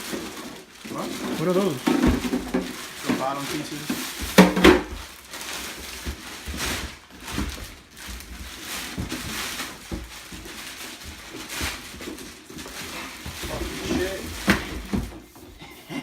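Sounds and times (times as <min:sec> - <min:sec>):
packaging rustling and crinkling: 0:00.0 - 0:15.6.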